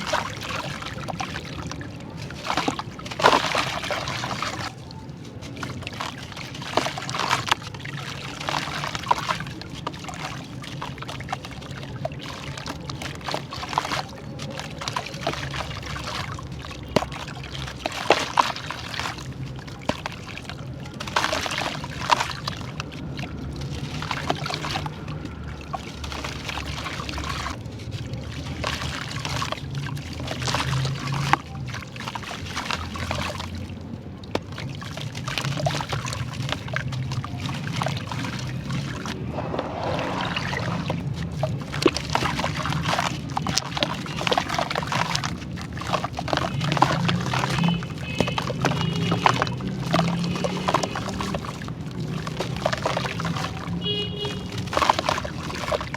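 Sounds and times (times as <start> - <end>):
charcoal crumbling in water: 0.0 - 55.9
dense wet crackling: 0.0 - 55.9
water trickling and pouring: 0.0 - 55.9.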